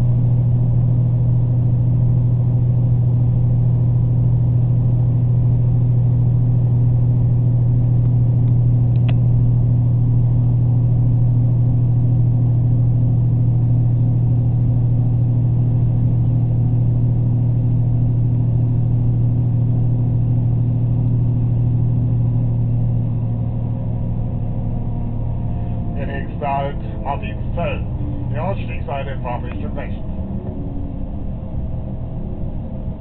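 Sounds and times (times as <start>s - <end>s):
train running from inside: 0.0s - 33.0s.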